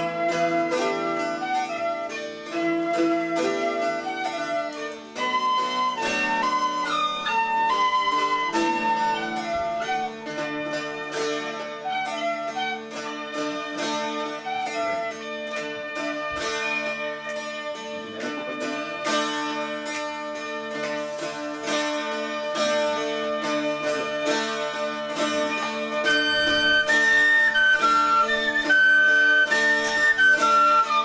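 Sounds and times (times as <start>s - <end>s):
picked melody: 0.0s - 31.0s
strummed bouzoukis: 0.0s - 31.0s.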